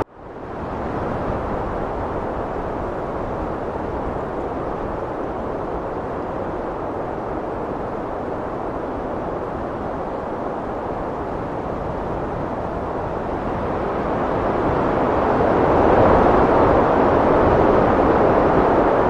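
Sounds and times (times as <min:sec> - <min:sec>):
heavy wind rushing: 0:00.0 - 0:19.0.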